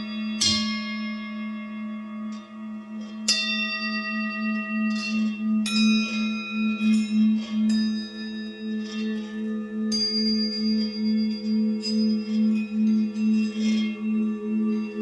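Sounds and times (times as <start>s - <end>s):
bell-like notes ringing: 0.0s - 15.0s
wavering drone: 0.0s - 15.0s.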